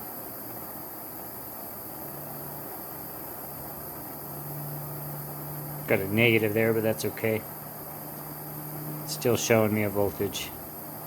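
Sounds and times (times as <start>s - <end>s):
flame hissing: 0.0s - 11.0s
low steady hum: 0.0s - 11.0s.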